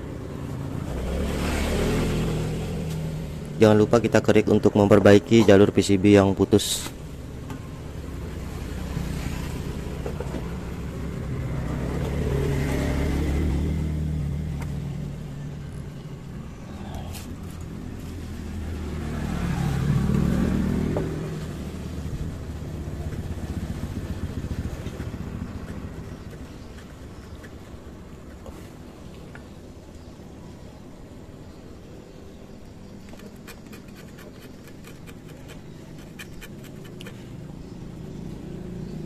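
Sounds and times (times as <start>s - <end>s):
road vehicles driving past: 0.0s - 39.0s.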